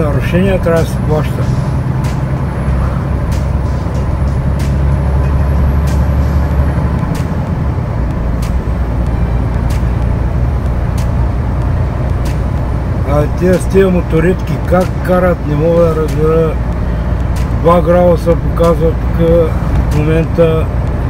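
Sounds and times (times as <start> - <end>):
road noise: 0.0 - 21.0
truck diesel engine drone: 0.0 - 21.0.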